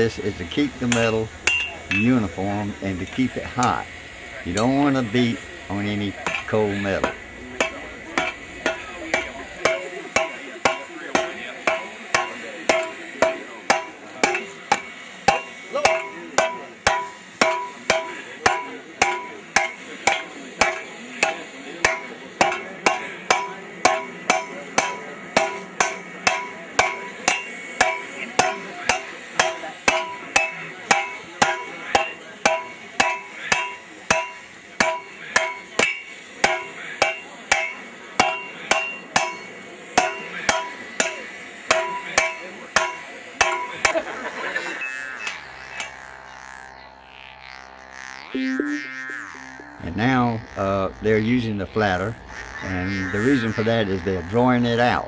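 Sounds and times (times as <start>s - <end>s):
anvil ringing: 0.0s - 46.0s
sledgehammer striking steel on anvil: 0.0s - 46.0s.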